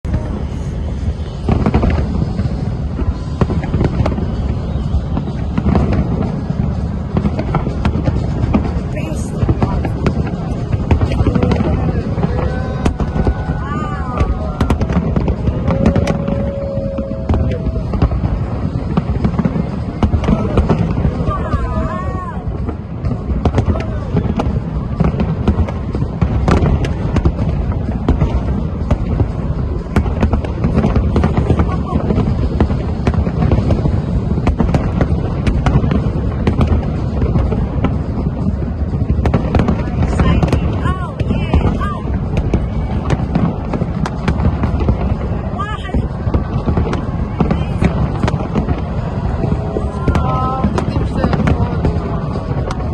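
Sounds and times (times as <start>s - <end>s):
fireworks cracks and pops: 0.0s - 52.9s
low rumble of explosions: 0.0s - 52.9s.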